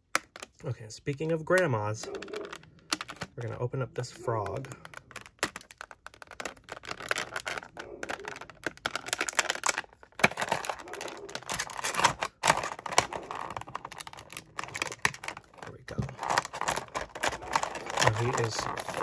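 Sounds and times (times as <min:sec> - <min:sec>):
plastic packaging crinkling: 0:02.0 - 0:19.0.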